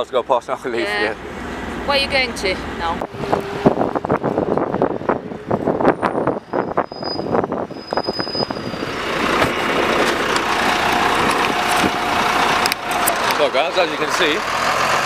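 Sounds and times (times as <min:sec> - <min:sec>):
steady road noise rush: 0:00.0 - 0:15.0
vehicle rattles and knocks: 0:02.8 - 0:15.0.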